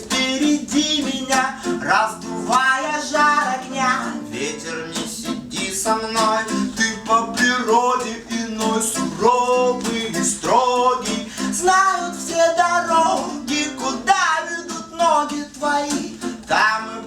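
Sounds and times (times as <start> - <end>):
acoustic guitar strumming: 0.0 - 17.0
person singing: 0.0 - 17.0.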